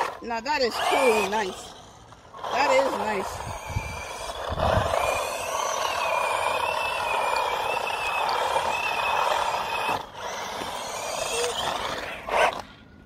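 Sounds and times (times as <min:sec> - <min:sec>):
high electric motor whine: 0:00.0 - 0:13.0.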